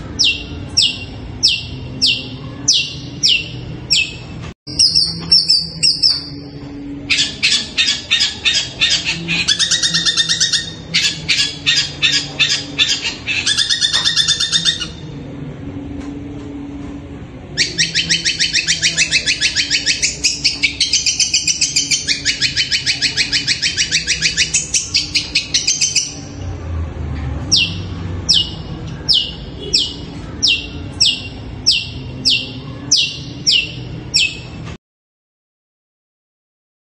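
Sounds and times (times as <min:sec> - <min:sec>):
bird chattering trills: 0:00.1 - 0:15.1, 0:17.6 - 0:26.4, 0:27.5 - 0:34.6.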